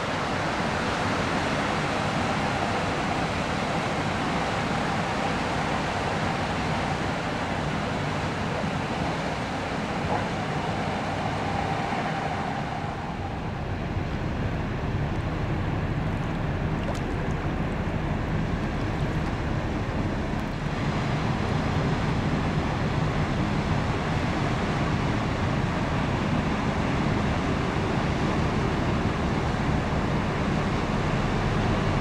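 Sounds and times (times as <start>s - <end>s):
tugboat diesel engine hum: 0.0s - 32.0s
wind on microphone: 1.4s - 32.0s.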